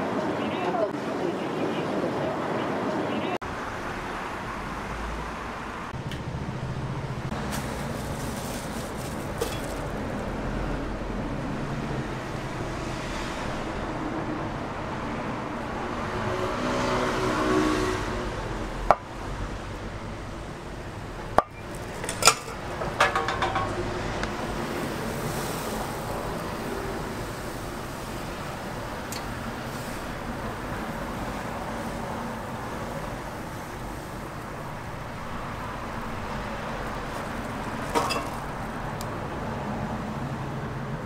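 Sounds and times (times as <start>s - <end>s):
street traffic: 0.0s - 41.0s.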